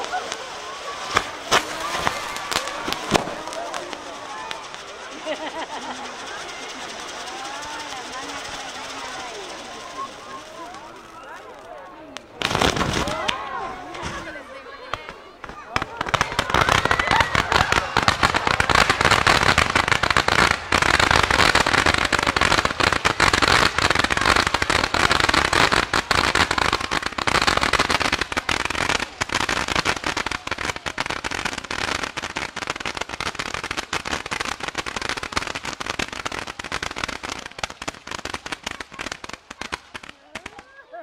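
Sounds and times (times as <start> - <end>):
fireworks hiss: 0.0 - 40.7
fireworks crackling pops: 0.0 - 40.8.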